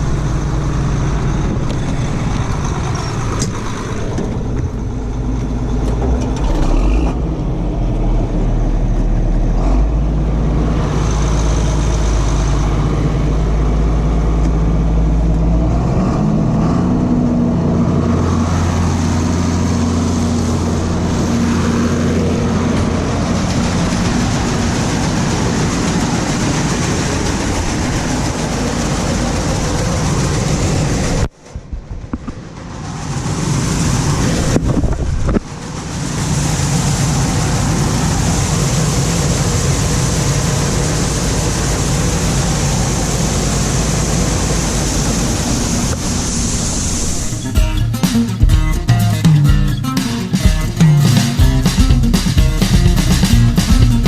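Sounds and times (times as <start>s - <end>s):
heavy farm machinery engine drone: 0.0s - 54.0s.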